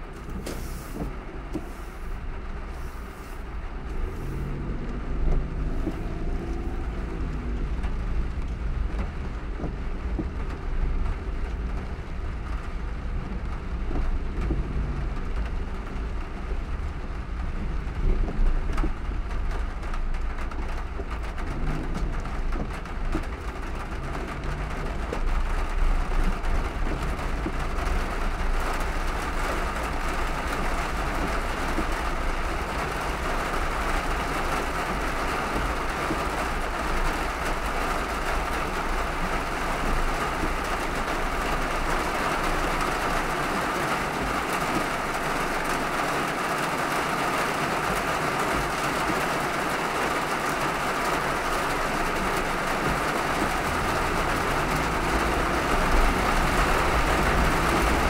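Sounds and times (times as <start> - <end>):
heavy rain hiss: 0.0 - 8.4, 14.5 - 58.0
tyres on wet road rumble: 0.0 - 58.0.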